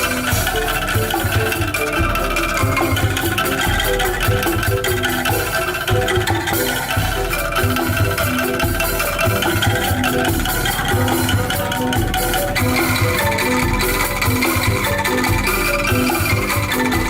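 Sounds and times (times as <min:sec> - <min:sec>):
bass: 0:00.0 - 0:17.0
drum beat: 0:00.0 - 0:17.0
struck bamboo notes: 0:00.0 - 0:17.0.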